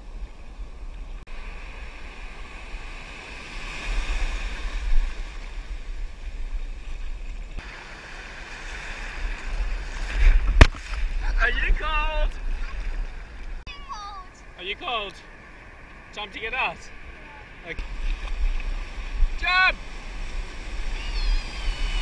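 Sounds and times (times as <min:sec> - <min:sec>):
wind rumbling on microphone: 0:00.0 - 0:13.6, 0:16.9 - 0:22.0
ocean surf washing: 0:00.6 - 0:22.0.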